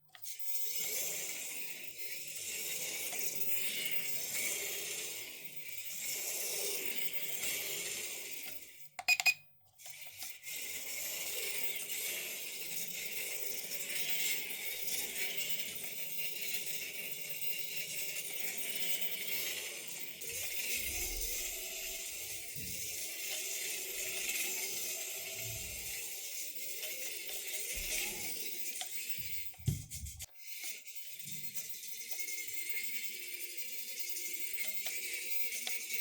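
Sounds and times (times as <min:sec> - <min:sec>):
small rc car motor rattling: 0:00.0 - 0:09.1, 0:09.7 - 0:36.0.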